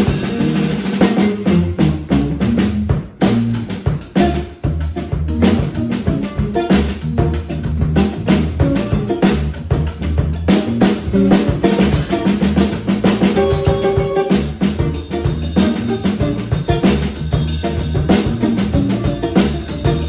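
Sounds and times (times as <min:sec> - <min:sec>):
drum kit playing: 0:00.0 - 0:20.0
electric bass line: 0:00.0 - 0:20.0.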